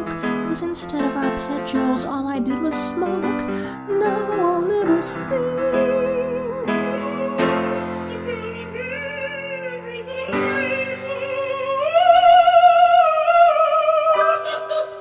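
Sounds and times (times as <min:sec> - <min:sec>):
operatic singing voice: 0:00.0 - 0:15.0
piano chords: 0:00.0 - 0:15.0.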